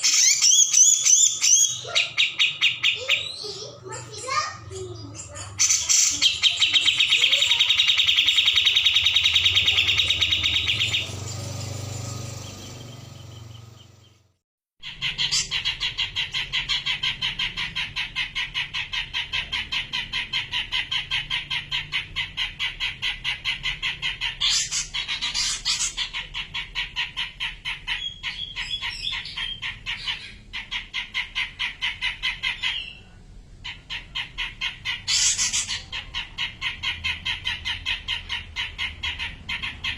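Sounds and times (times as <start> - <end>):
bird chattering call: 0.0 - 14.2, 14.8 - 39.9.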